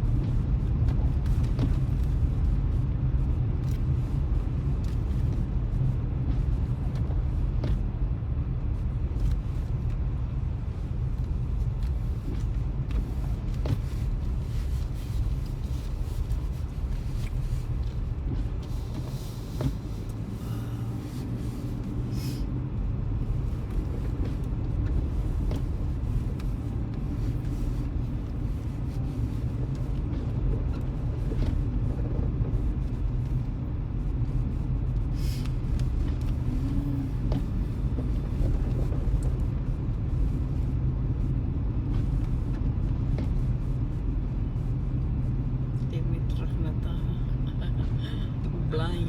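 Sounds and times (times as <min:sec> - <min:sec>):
vehicle engine and tyres rumble: 0:00.0 - 0:49.0.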